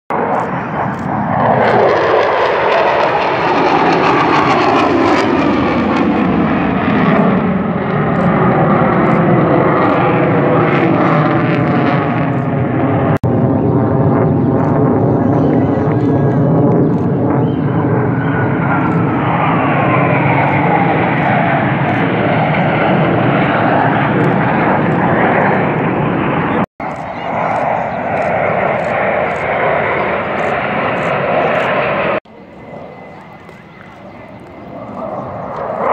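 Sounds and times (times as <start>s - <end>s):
jet roar overhead: 0.1s - 35.9s.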